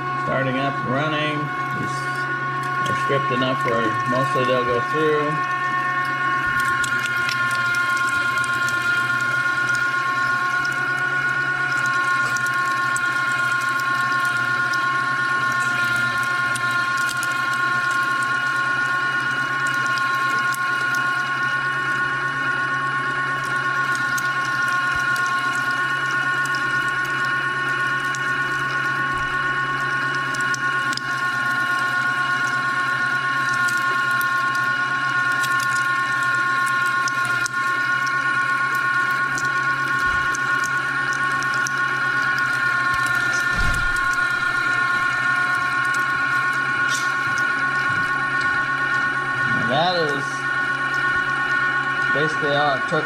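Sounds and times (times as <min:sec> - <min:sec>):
electric meat grinder whining: 0:00.0 - 0:53.0.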